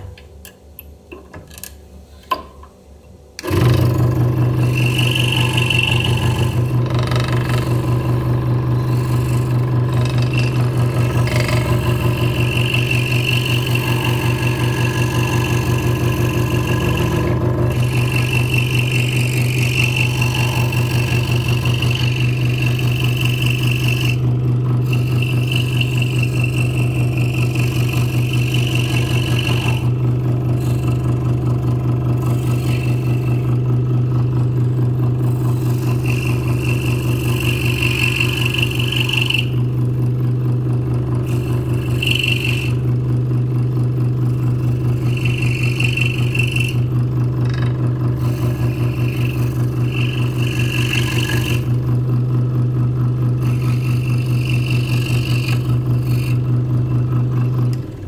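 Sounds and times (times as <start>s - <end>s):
saw blade cutting wood: 3.4s - 39.8s, 41.2s - 42.9s, 44.2s - 52.0s, 53.4s - 58.0s
scroll saw humming: 3.4s - 58.0s.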